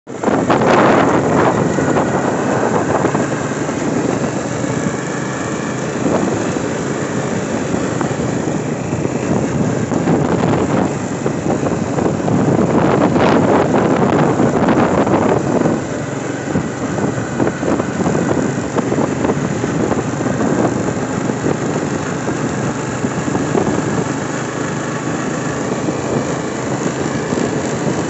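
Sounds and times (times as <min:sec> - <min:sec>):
vehicle motor and road noise: 0:00.0 - 0:28.0
wind buffeting microphone: 0:00.1 - 0:28.0.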